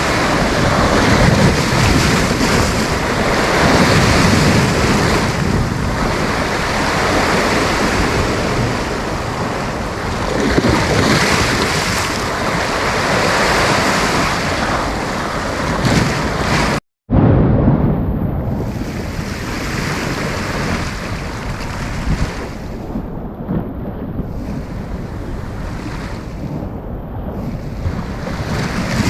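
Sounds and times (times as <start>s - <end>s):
sea waves breaking on beach: 0.0s - 16.8s, 18.4s - 29.0s.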